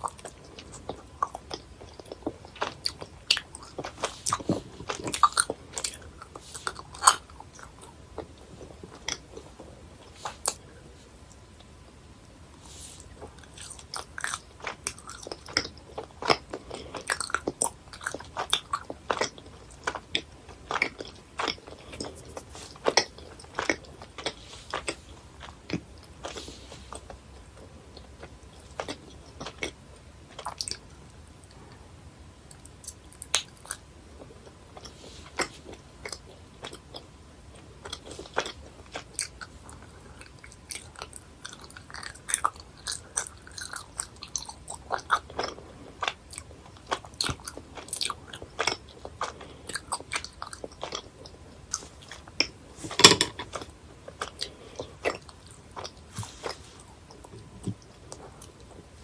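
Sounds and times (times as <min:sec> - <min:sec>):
chewing gummy candies: 0:00.0 - 0:11.7, 0:12.6 - 0:31.8, 0:32.5 - 0:59.0.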